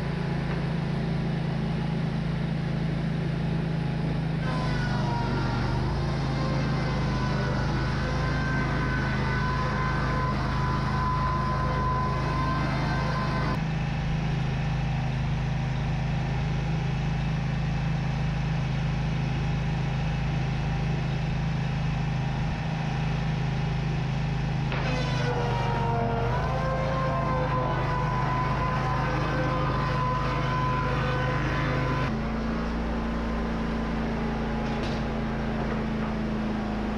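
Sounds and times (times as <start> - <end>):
engine droning: 0.0 - 36.9
saw blades whining: 0.0 - 36.9.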